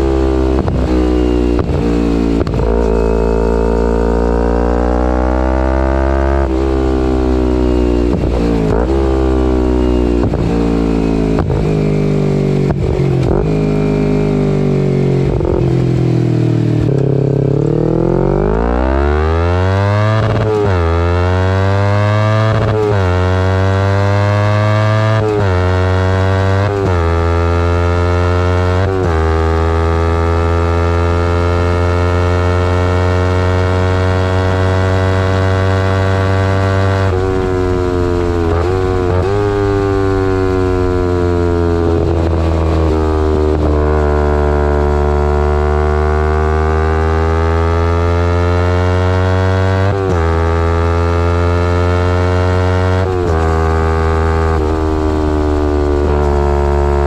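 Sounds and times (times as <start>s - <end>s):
motorcycle engine with gear changes: 0.0s - 57.0s.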